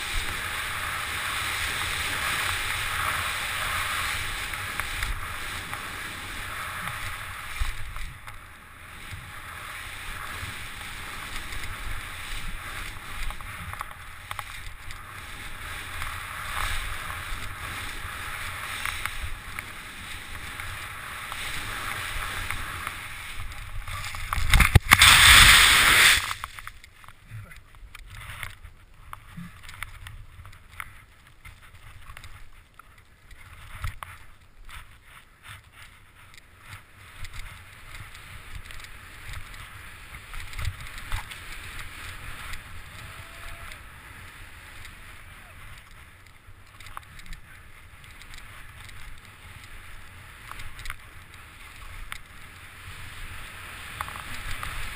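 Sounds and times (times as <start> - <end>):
skis hissing through snow: 0.0 - 26.8, 33.4 - 54.9
snow spraying over camera: 0.0 - 26.9, 33.4 - 54.9.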